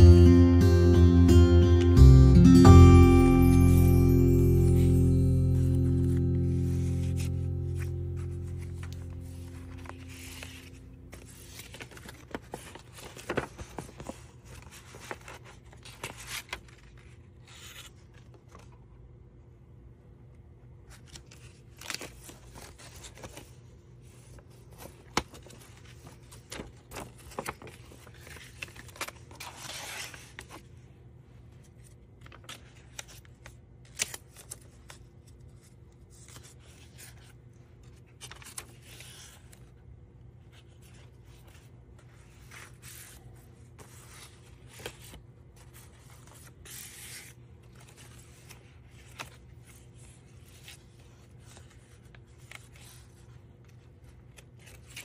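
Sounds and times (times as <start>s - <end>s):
faint low hum: 4.3s - 54.8s
paper pages rustling: 5.2s - 18.8s, 20.9s - 55.0s.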